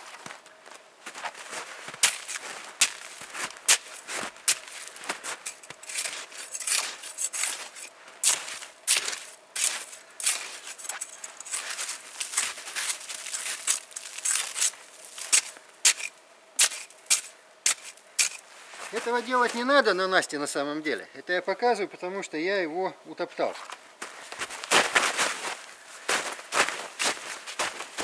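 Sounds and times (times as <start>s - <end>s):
boots crunching in snow: 0.0s - 20.0s, 23.5s - 28.0s.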